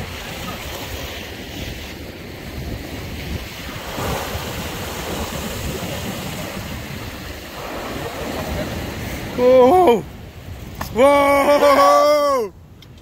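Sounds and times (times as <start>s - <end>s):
sea waves breaking on rocks: 0.0s - 12.8s.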